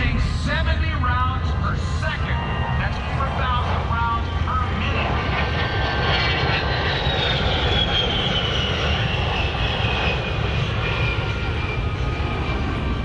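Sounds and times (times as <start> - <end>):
jet engines whining: 0.0 - 13.0
low rumble: 0.0 - 13.0.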